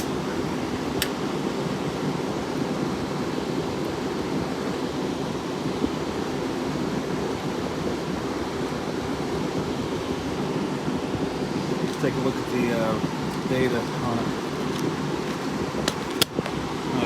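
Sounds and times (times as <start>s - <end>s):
air conditioner fan blowing: 0.0s - 17.0s.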